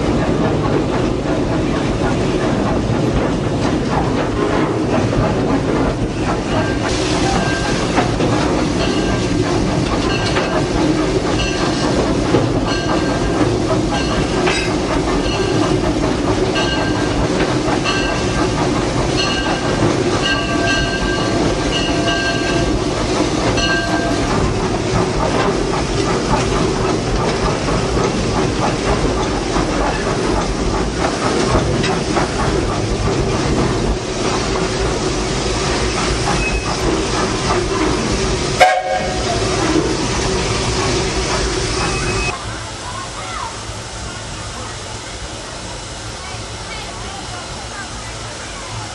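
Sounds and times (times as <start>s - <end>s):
steam locomotive rumble and rattle: 0.0s - 48.9s.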